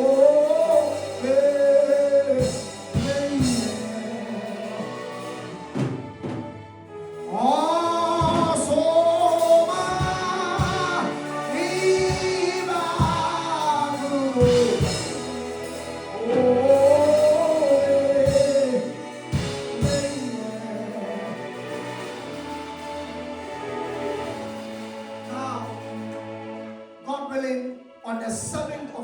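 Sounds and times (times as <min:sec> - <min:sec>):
gospel singing with instruments: 0:00.0 - 0:29.0.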